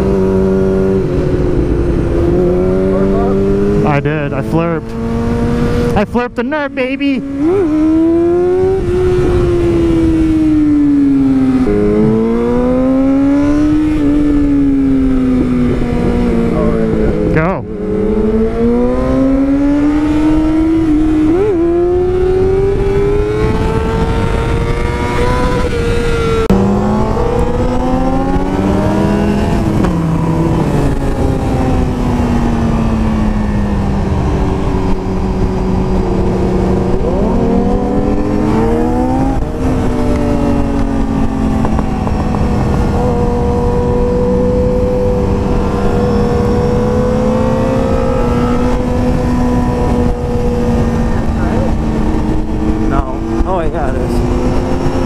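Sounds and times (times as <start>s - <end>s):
motorcycle engine revving: 0.0s - 55.0s
wind rushing on microphone: 0.0s - 55.0s.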